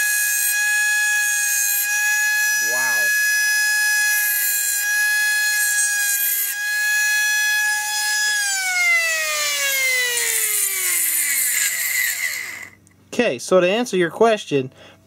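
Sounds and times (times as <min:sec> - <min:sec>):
spindle whining while drilling brass: 0:00.0 - 0:12.9.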